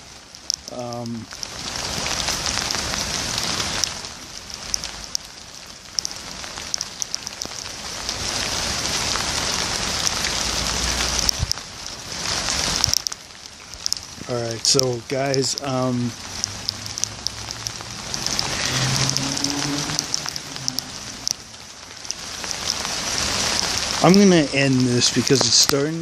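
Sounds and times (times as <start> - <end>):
raindrops ticking near microphone: 0.0 - 26.0
steady rain falling: 0.0 - 26.0.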